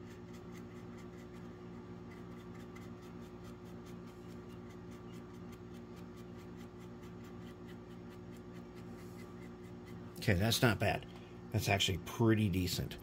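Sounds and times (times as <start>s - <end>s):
paintbrush brushing on plastic: 0.0s - 10.5s.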